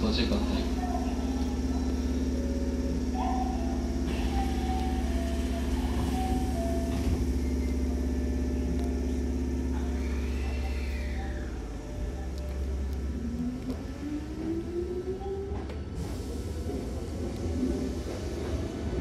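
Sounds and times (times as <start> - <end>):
traction motor whine rising: 0.0 - 19.0
train equipment humming: 0.0 - 19.0.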